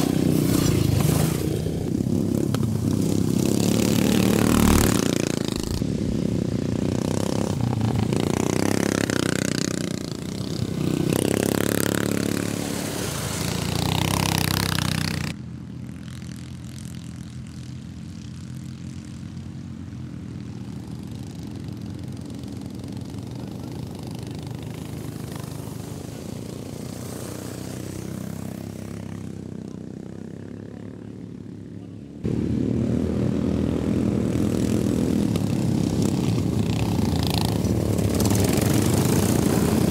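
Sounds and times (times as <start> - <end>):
lawn mower engines revving: 0.0 - 39.9.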